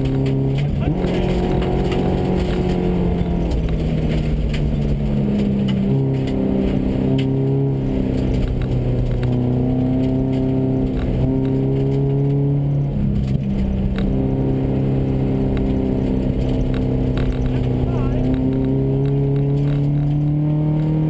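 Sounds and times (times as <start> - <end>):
gravel ticking against car: 0.0 - 20.9
rally car engine from inside cabin: 0.0 - 21.0.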